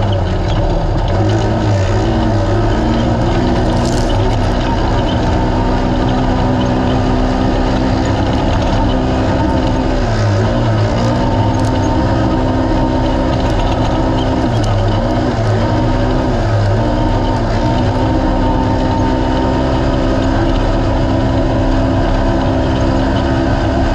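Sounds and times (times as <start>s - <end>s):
engine droning at high revs: 0.0s - 23.9s.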